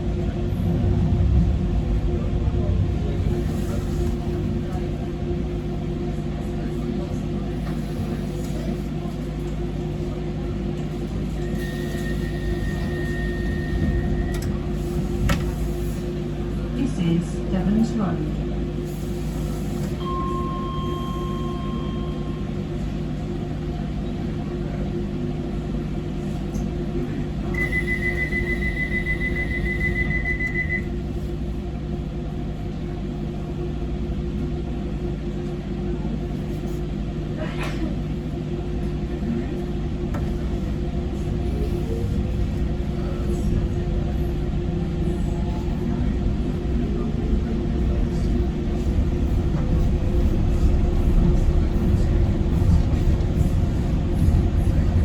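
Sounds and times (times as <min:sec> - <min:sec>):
train humming: 0:00.0 - 0:55.0.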